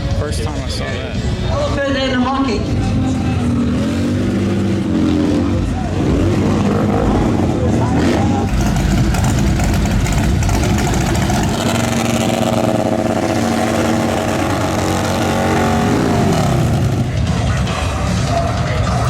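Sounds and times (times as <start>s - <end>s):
motorcycle engine revving: 1.7s - 19.0s.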